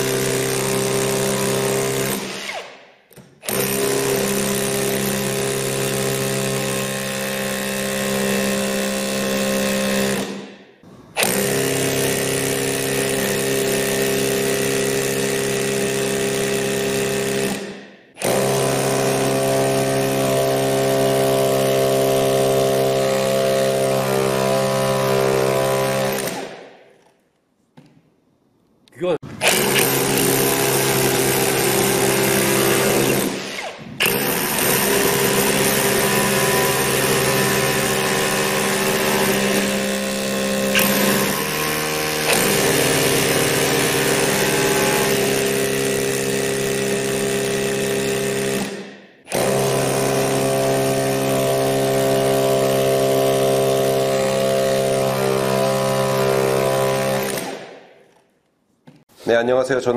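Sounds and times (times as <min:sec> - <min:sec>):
rotary hammer chiselling concrete: 0:00.0 - 0:26.7, 0:29.2 - 0:57.9.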